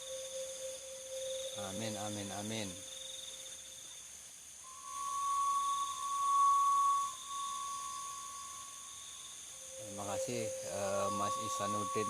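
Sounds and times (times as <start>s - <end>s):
steady high tone: 0.0s - 2.8s, 4.7s - 12.0s
crickets chirping: 0.0s - 12.0s.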